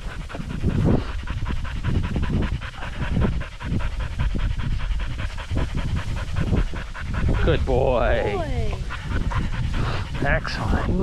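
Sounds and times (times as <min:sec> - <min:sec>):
dog panting: 0:00.0 - 0:11.0
low wind rumble: 0:00.0 - 0:11.0.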